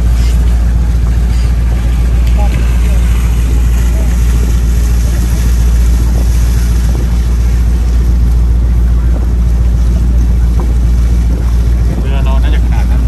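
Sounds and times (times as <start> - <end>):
ferry engine drone: 0.0 - 13.0
water hissing along hull: 0.0 - 13.0
wind buffeting microphone: 0.0 - 13.0.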